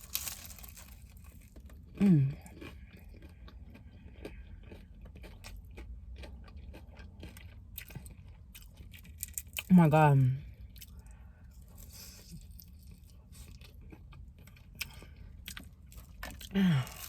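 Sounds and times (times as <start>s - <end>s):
crunching and chewing fried chicken: 0.0s - 17.0s.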